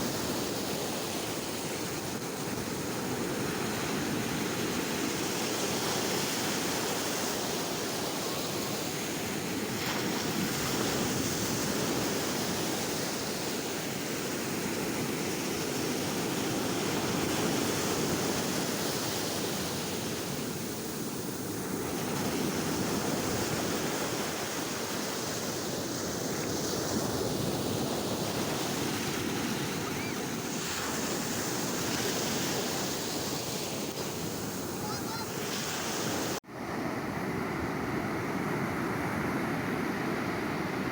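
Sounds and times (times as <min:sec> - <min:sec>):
waves breaking on shore: 0:00.0 - 0:40.9.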